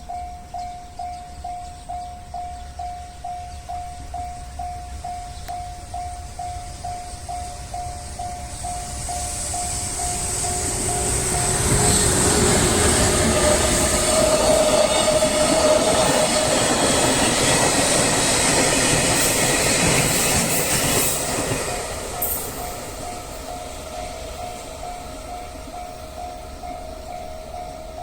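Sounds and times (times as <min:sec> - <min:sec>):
crossing warning bell: 0:00.0 - 0:28.0
train wheel and rail noise: 0:00.0 - 0:28.0.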